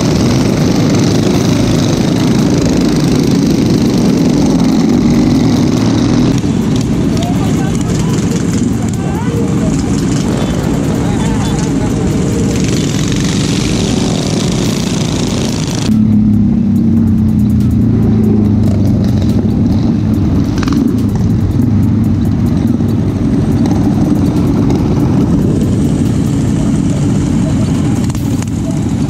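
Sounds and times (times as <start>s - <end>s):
motorbike engine running: 0.0s - 29.0s.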